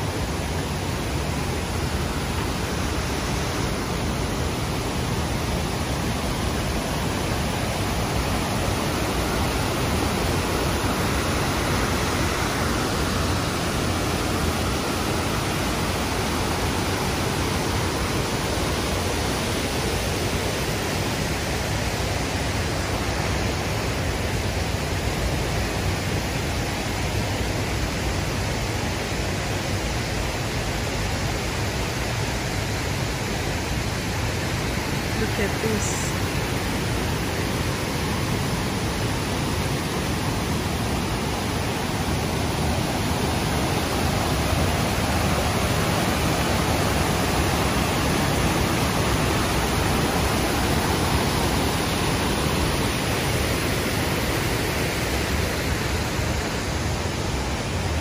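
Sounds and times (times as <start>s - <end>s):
river rushing over waterfall: 0.0s - 58.0s.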